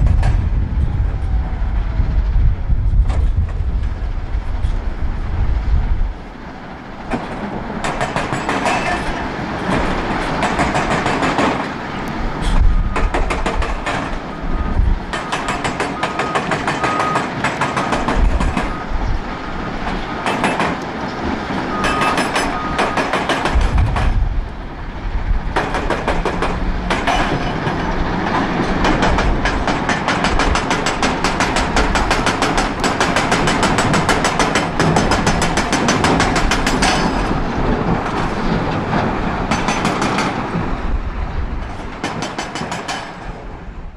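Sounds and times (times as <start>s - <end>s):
wheel loader diesel engine: 0.0s - 42.6s.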